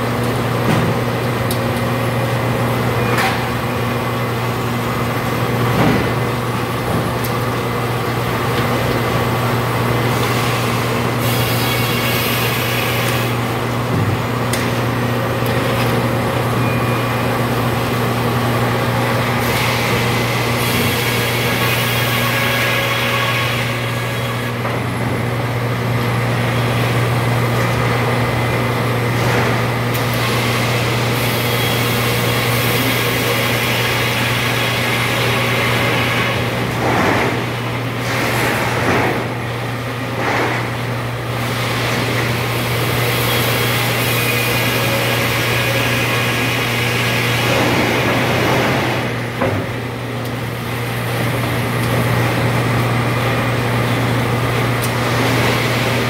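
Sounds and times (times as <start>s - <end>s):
sawmill motor hum: 1.2s - 29.1s, 29.7s - 56.0s.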